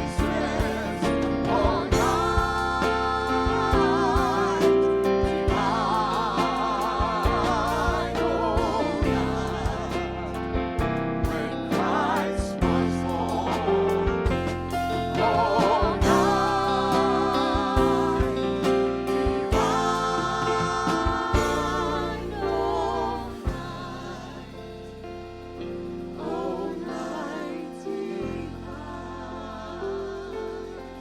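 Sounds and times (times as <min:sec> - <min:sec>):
band with bass and drums: 0:00.0 - 0:31.0
person singing with vibrato: 0:00.0 - 0:31.0.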